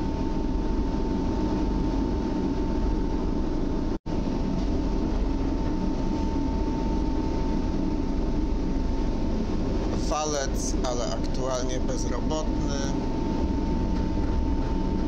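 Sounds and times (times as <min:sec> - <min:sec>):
high whine: 0:00.0 - 0:15.0
low rumble of running train: 0:00.0 - 0:15.0.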